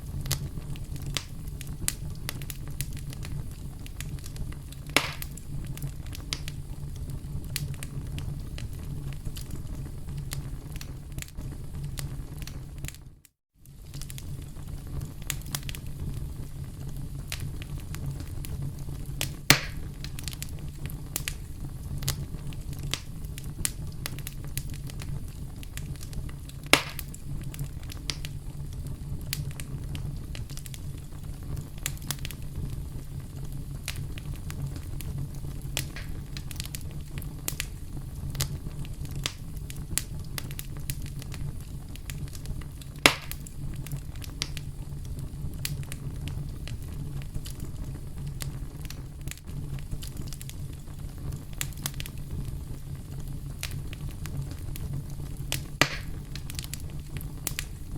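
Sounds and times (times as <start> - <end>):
campfire burning and crackling: 0.0 - 57.9
sharp pops from fire: 0.0 - 57.9.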